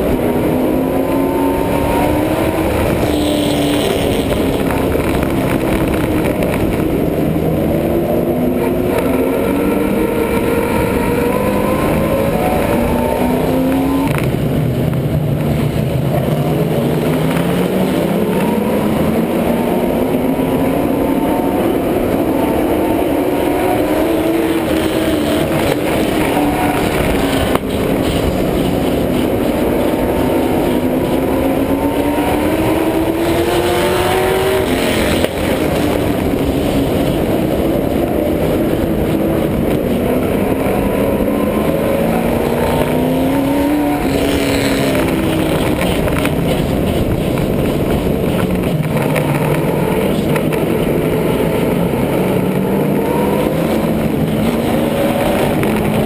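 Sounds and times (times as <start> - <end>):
race car engine accelerating: 0.0 - 56.0
road and wind noise: 0.0 - 56.0.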